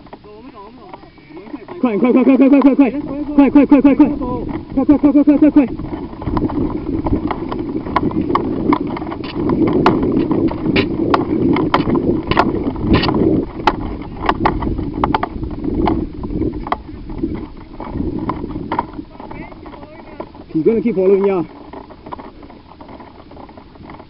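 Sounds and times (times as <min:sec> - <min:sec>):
microphone handling noise: 0:00.0 - 0:24.0
wind rumble on microphone: 0:00.0 - 0:24.0
sharp knocks and clicks: 0:02.5 - 0:24.0.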